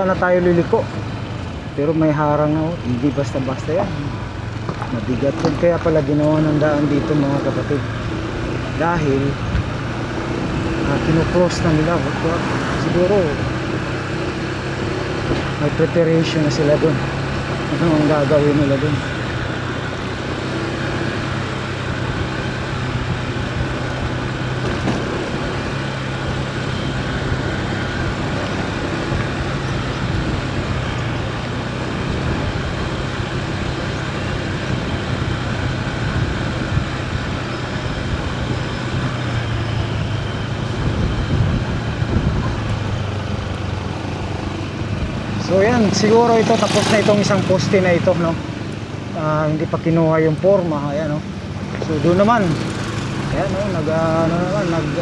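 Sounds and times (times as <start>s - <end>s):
road and traffic noise: 0.0s - 55.0s
vehicle engine humming: 0.0s - 55.0s.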